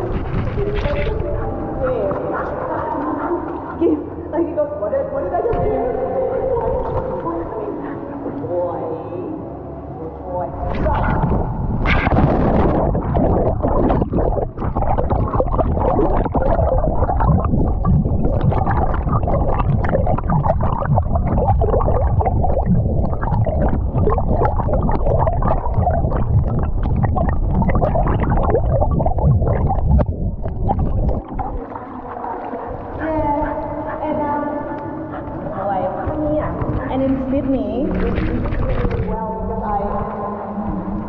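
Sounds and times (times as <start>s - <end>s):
underwater gurgling and bubbling: 0.0s - 3.9s, 10.6s - 41.0s.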